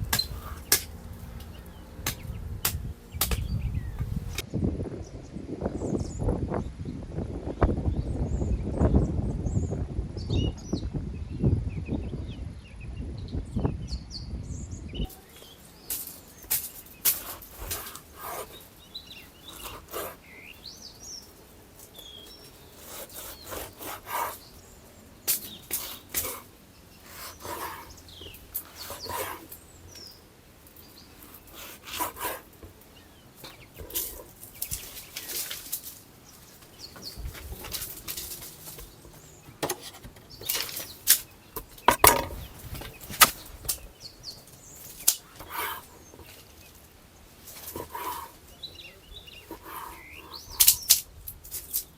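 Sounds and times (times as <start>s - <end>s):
birds chirping faintly: 0.0s - 51.9s.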